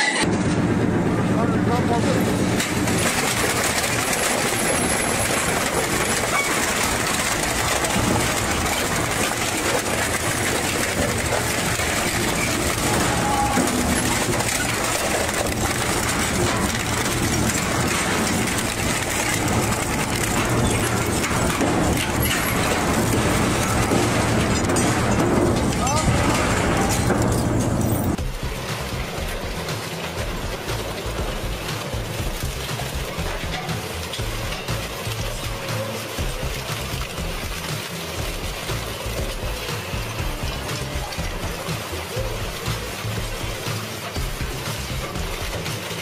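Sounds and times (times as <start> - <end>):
industrial shredder grinding wood and metal: 0.0 - 46.0.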